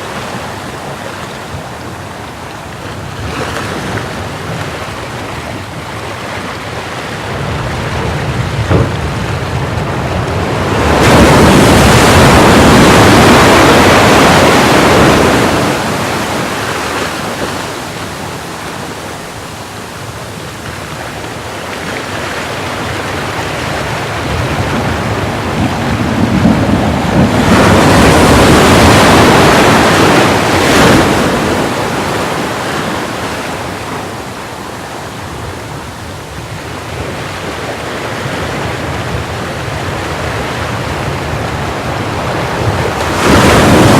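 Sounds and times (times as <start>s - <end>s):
large waves crashing: 0.0s - 43.9s
steady surf noise: 0.0s - 43.9s.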